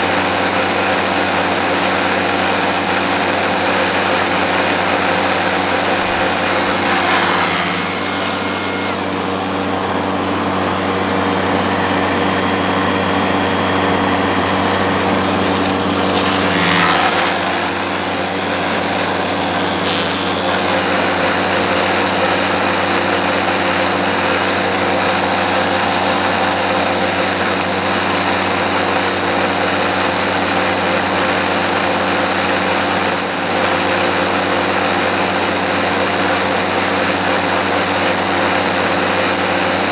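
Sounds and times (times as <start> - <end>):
cordless garden tool motor: 0.0 - 39.9.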